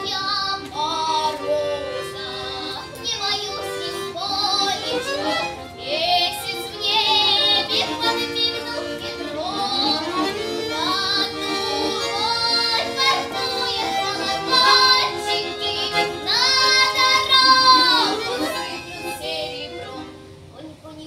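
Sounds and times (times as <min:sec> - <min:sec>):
instrumental accompaniment: 0:00.0 - 0:20.6
girl singing with vibrato: 0:00.0 - 0:21.0.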